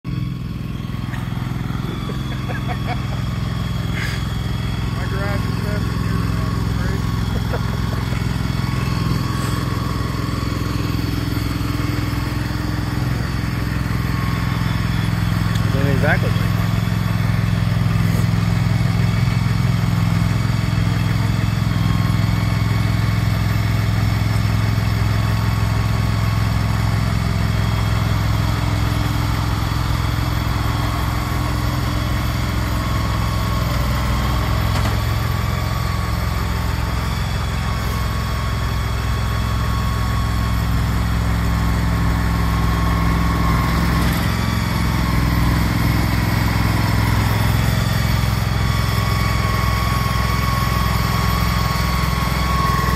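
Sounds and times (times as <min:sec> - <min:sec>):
small engine humming with whine: 0:00.1 - 0:52.9.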